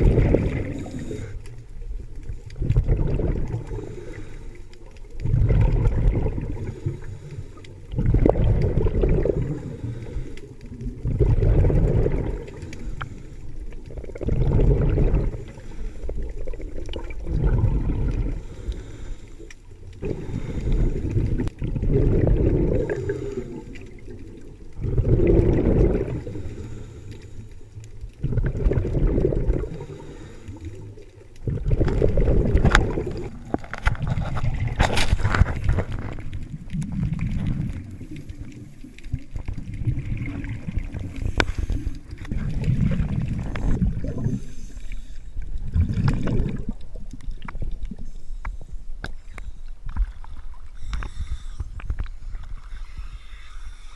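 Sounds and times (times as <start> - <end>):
diver's exhaled bubbles underwater: 0.0 - 19.1, 19.7 - 27.3, 28.0 - 48.1.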